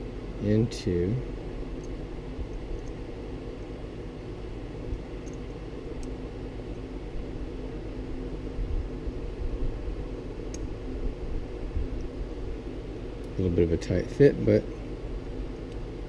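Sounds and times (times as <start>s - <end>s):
mechanical hum and hiss: 0.0s - 16.0s.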